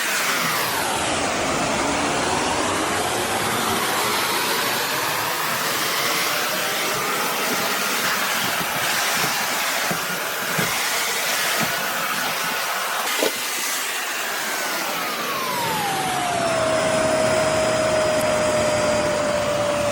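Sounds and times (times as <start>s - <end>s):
upright vacuum running: 0.0s - 19.9s.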